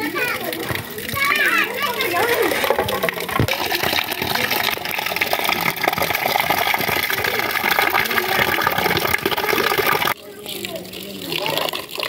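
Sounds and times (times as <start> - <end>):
tap water pouring onto metal plate: 0.0 - 12.0
water splashing on concrete: 0.0 - 12.0.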